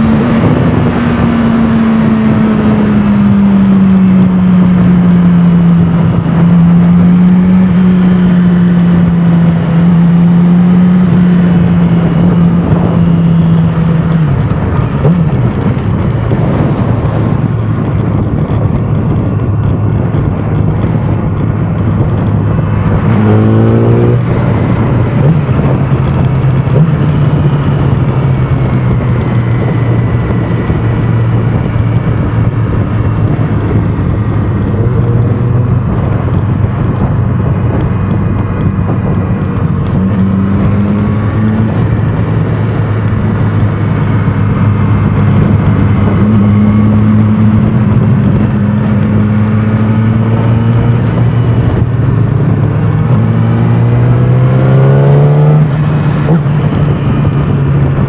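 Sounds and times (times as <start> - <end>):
motorcycle engine cruising: 0.0 - 58.0
wind rush: 0.0 - 58.0.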